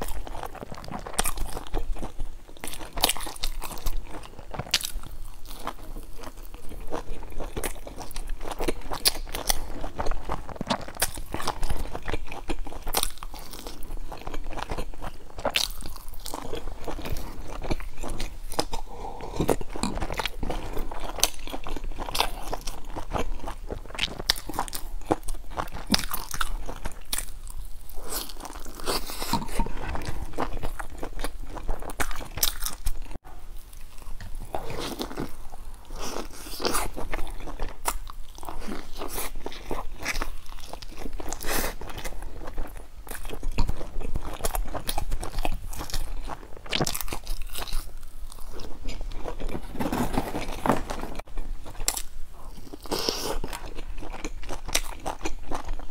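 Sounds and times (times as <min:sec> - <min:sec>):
crunchy chewing: 0:00.0 - 0:55.9.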